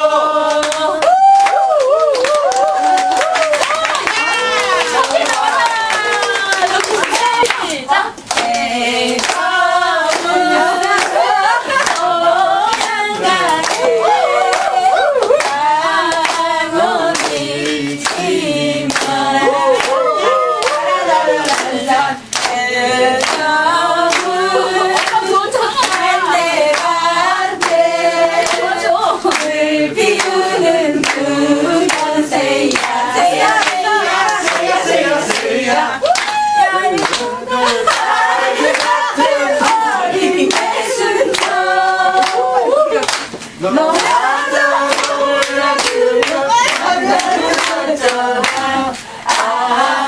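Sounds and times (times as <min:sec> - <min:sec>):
group of people singing: 0:00.0 - 0:50.0
hands clapping to the beat: 0:00.4 - 0:09.5, 0:10.1 - 0:12.1, 0:12.7 - 0:16.5, 0:17.1 - 0:18.3, 0:18.9 - 0:22.6, 0:23.2 - 0:24.4, 0:25.0 - 0:25.2, 0:25.8 - 0:27.0, 0:27.6 - 0:29.6, 0:31.0 - 0:37.3, 0:37.9 - 0:41.6, 0:42.2 - 0:50.0.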